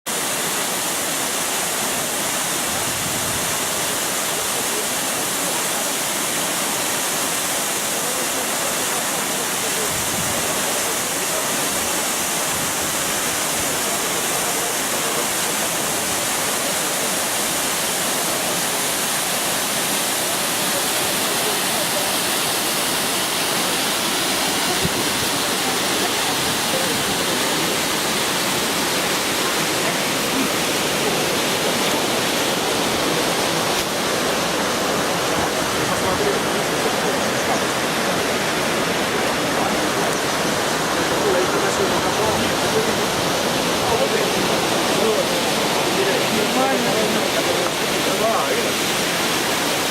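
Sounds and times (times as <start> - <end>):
waterfall roaring: 0.1 - 49.9.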